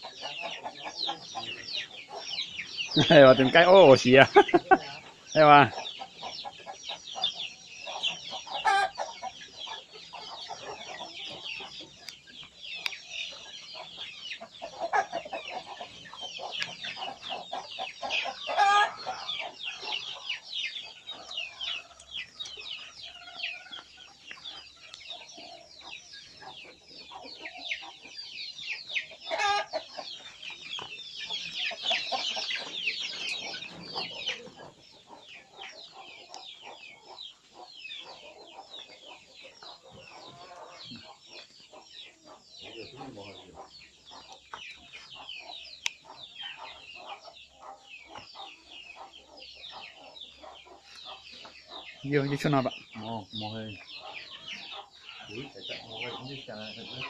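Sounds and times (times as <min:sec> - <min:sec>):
chickens clucking: 0:00.0 - 0:57.0
dense high-pitched chirping: 0:00.0 - 0:57.0.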